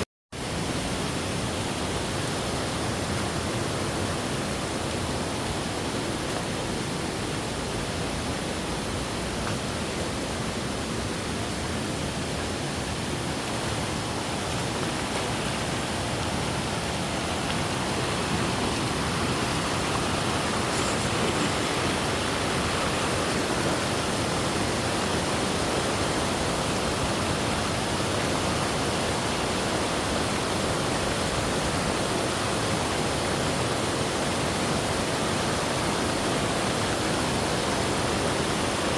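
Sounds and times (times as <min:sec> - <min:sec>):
waterfall rushing: 0:00.4 - 0:38.9.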